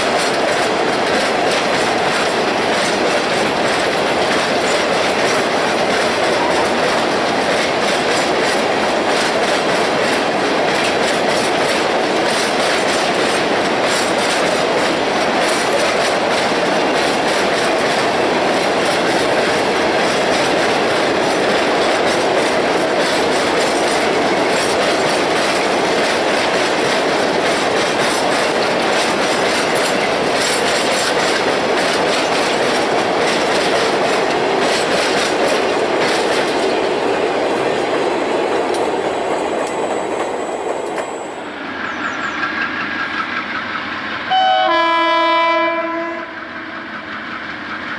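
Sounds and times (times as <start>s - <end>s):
freight train wheels rumbling: 0.0s - 47.9s
wheels clacking over rail joints: 0.0s - 47.9s.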